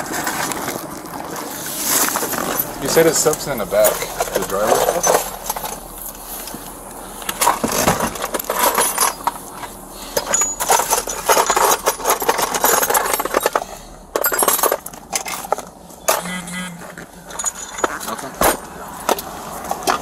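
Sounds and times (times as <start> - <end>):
rummaging rustles and metallic clinks: 0.0 - 20.0.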